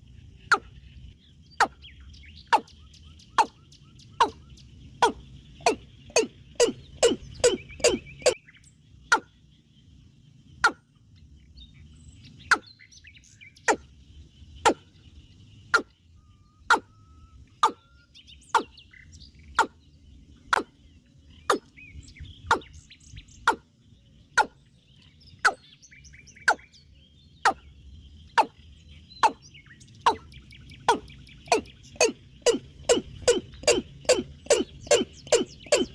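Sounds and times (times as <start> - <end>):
birds chirping faintly: 0.0 - 35.9.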